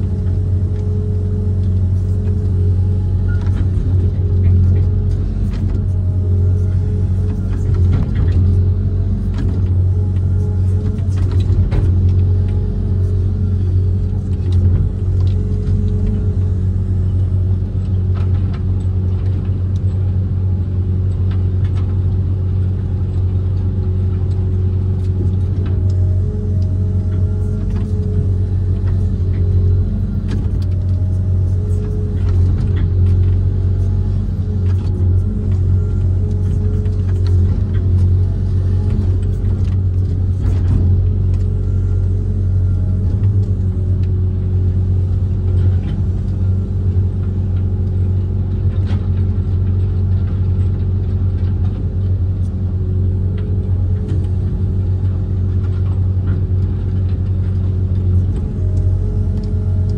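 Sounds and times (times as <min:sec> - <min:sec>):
diesel engine droning under load: 0:00.0 - 0:59.9.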